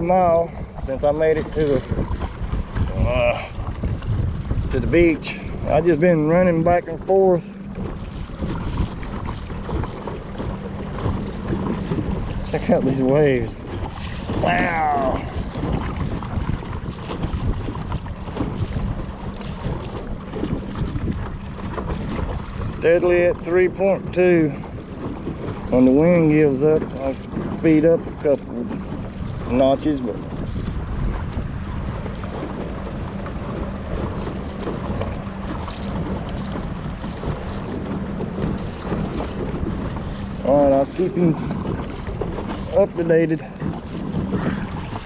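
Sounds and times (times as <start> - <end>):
waves slapping kayak hull: 0.0 - 45.0
wind buffeting microphone: 0.0 - 45.0
electric trolling motor humming: 3.7 - 45.0.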